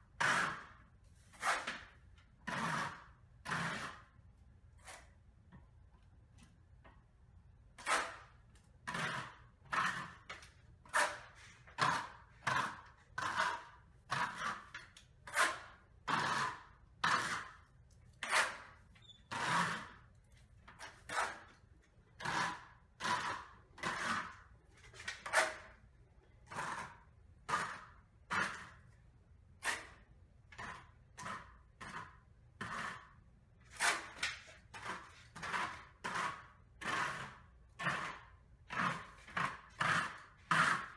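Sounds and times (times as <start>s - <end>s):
taping knife scraping compound: 0.0s - 5.7s, 7.7s - 40.9s.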